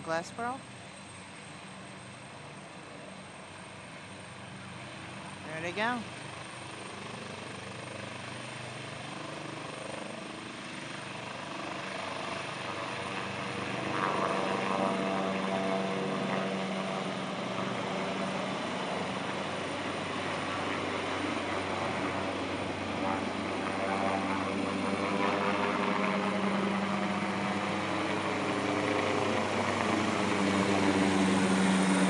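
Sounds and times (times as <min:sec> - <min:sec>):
helicopter lifting off: 0:00.0 - 0:32.0.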